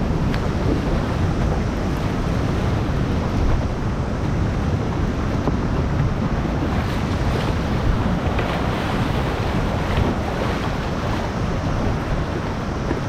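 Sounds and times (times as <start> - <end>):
river water rushing: 0.0 - 13.0
wind buffeting microphone: 0.0 - 13.0.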